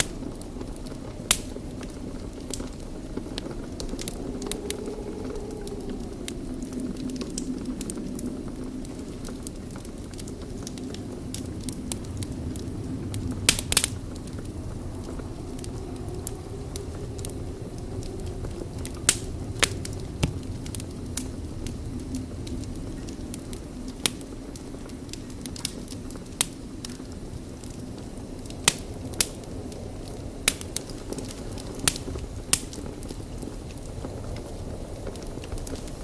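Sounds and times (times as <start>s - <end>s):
fire crackles and pops: 0.0s - 36.0s
wood fire burning: 0.0s - 36.0s.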